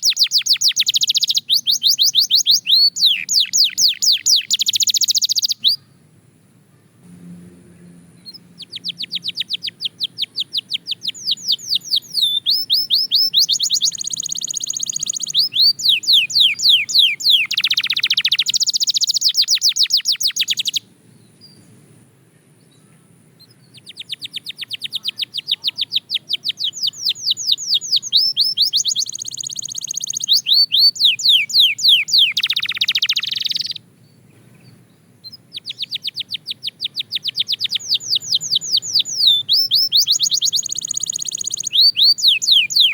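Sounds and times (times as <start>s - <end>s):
canary singing trills: 0.0s - 6.2s, 6.8s - 21.8s, 22.7s - 42.9s.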